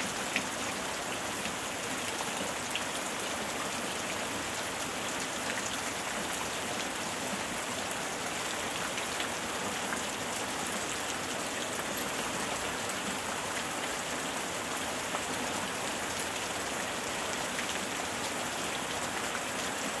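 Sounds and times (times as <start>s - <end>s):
rain falling on pool water: 0.0s - 20.0s.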